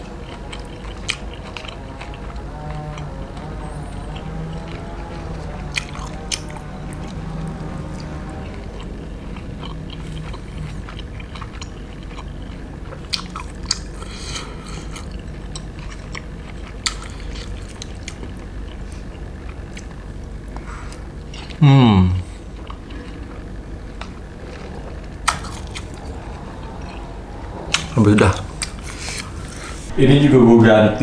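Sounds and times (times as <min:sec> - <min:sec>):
man chewing food: 0:00.0 - 0:29.9
faint pitched background tone: 0:00.0 - 0:31.0.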